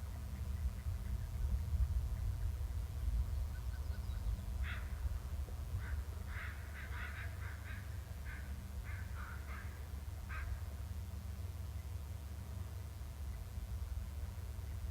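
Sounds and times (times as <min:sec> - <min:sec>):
low rumble of wind or hum: 0:00.0 - 0:14.9.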